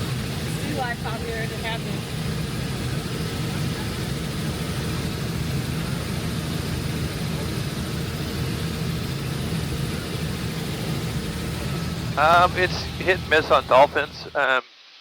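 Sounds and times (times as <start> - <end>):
helicopter engine and rotor drone: 0.0 - 14.6.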